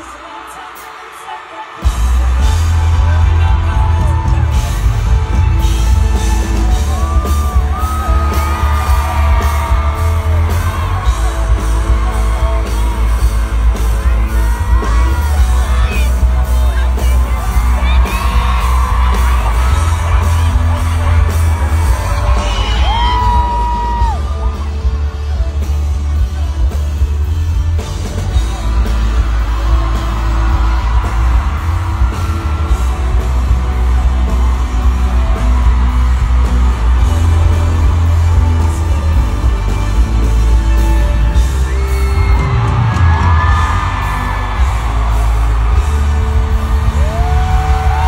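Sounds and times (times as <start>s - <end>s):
crowd singing and yelling: 0.0s - 48.0s
fans screaming: 0.0s - 48.0s
loud concert music with heavy bass: 0.0s - 48.0s.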